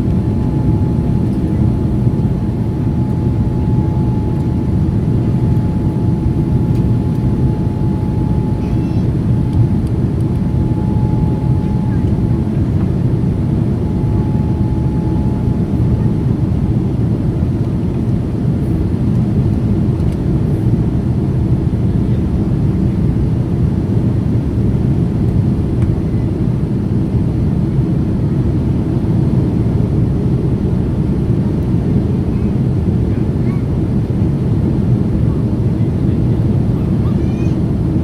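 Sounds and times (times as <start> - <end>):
jet engines rumbling: 0.0 - 38.0.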